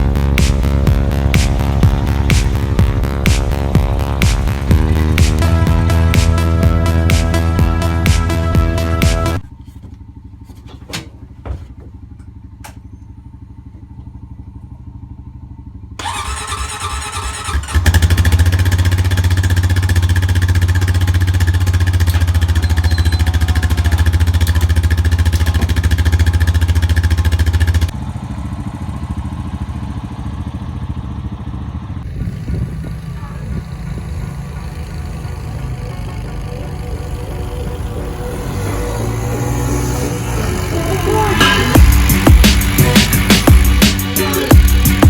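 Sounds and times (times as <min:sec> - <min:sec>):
atv engine idling and revving: 0:00.0 - 0:45.0.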